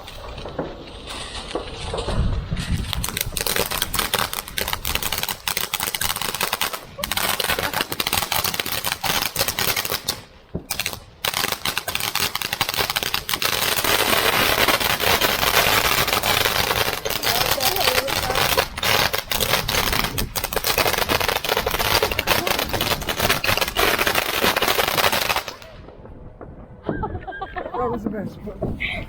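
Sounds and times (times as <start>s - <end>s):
firework crackling bangs: 0.0s - 27.3s.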